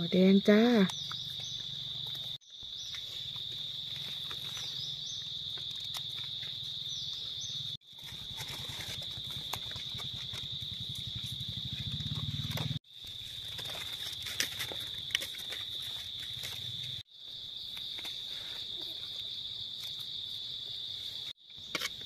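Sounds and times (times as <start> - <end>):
insects chorus: 0.0 - 22.0
clicks and rustles in leaves: 0.5 - 20.4.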